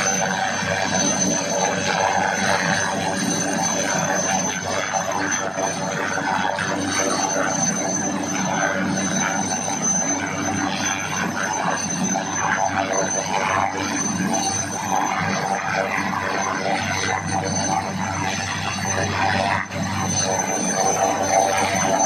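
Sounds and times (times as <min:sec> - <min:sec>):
helicopter turbine engine whining: 0:00.0 - 0:22.0.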